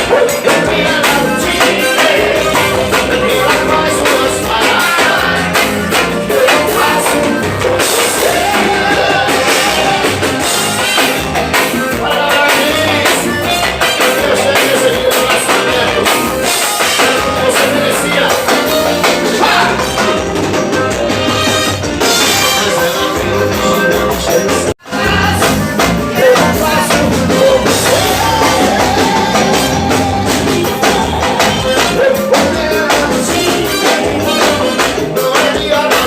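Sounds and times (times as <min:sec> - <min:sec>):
person singing: 0:00.0 - 0:10.5, 0:11.9 - 0:20.0, 0:22.4 - 0:36.0
drum kit beat: 0:00.0 - 0:36.0
live band music through speakers: 0:00.0 - 0:36.0.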